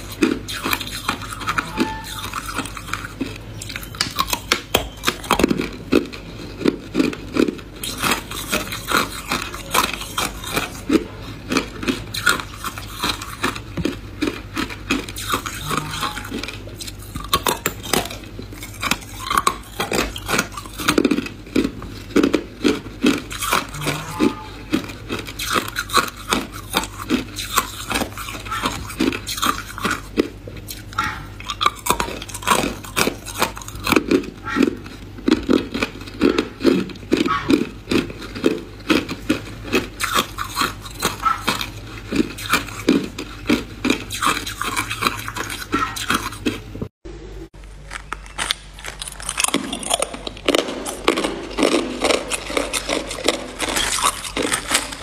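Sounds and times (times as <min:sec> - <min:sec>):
ice crunching between teeth: 0:00.0 - 0:46.7, 0:47.6 - 0:55.0.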